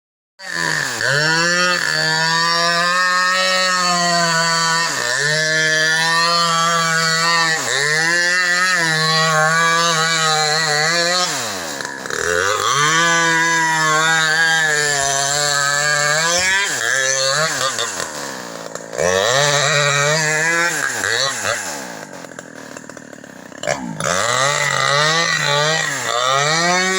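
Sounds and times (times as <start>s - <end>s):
chainsaw revving: 0.4s - 26.9s.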